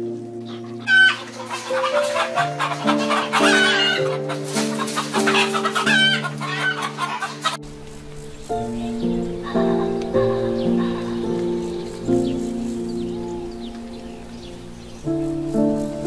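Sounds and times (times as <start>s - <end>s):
soft background music: 0.0s - 16.0s
chickens clucking: 0.5s - 16.0s.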